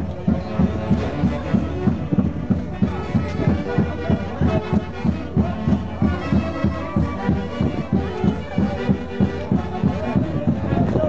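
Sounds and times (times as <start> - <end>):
festival band playing dance tune: 0.0 - 11.0.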